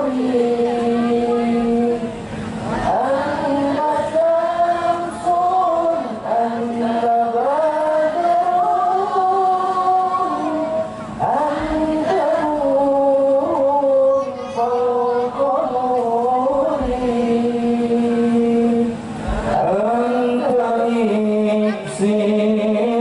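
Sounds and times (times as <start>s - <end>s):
man singing over pa system: 0.0s - 23.0s.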